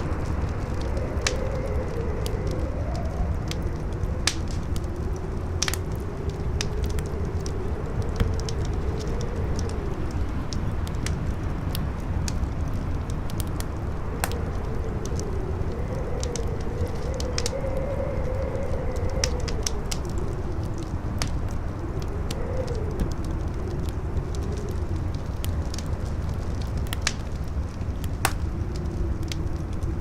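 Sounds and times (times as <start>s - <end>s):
fire crackling and popping: 0.0s - 30.0s
low rush of wind: 0.0s - 30.0s
wind howling: 0.0s - 30.0s.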